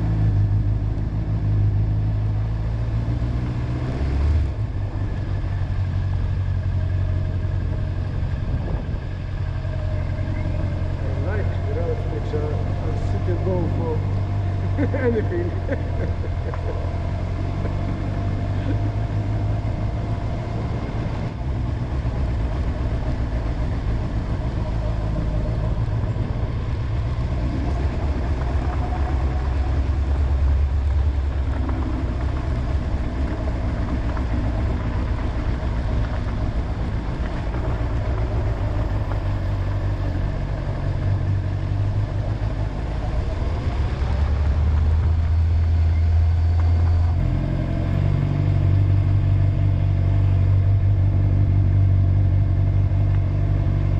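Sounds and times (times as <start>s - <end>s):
motorcycle engine running: 4.5s - 53.9s.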